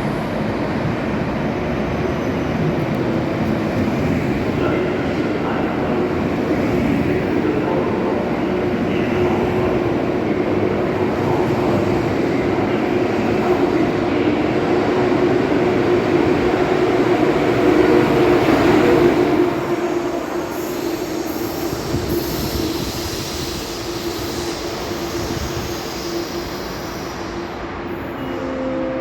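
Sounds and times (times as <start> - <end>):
train rumbling along track: 0.0 - 29.0.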